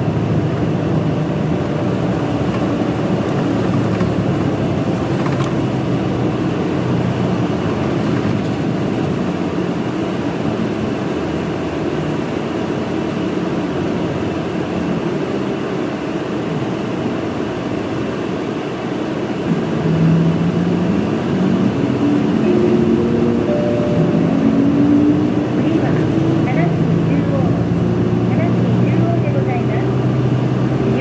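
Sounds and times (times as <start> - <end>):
bus engine: 0.0 - 31.0
road noise: 0.0 - 31.0.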